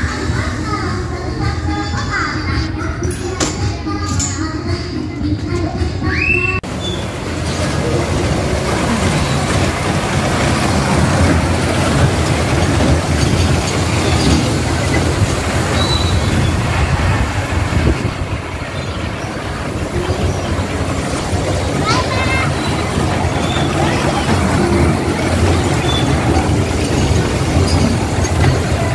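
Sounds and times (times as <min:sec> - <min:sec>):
wheels rumbling on steel rails: 0:05.5 - 0:28.9.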